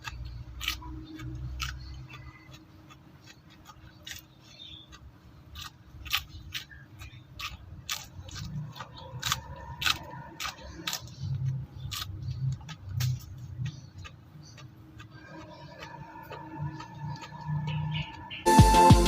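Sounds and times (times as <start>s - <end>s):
crisp chewing crunches: 0.0s - 18.4s.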